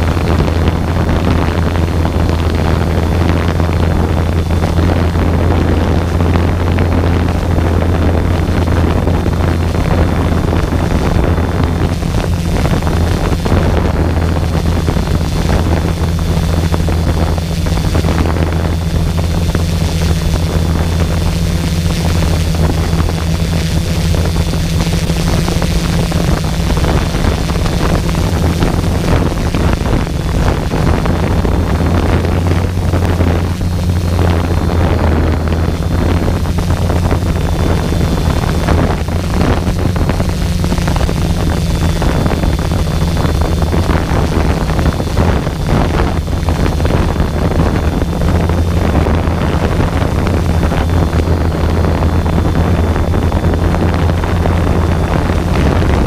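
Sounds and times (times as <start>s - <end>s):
drone propellers humming: 0.0s - 56.0s
faint high whine: 0.0s - 56.0s
wind buffeting microphone: 0.0s - 56.0s.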